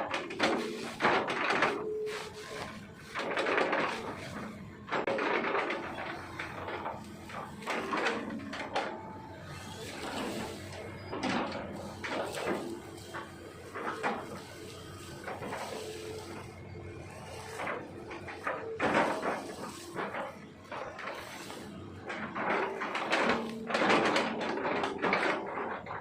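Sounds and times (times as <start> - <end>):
bucket crunching trunks: 0.0 - 26.0
excavator engine hum: 0.0 - 26.0.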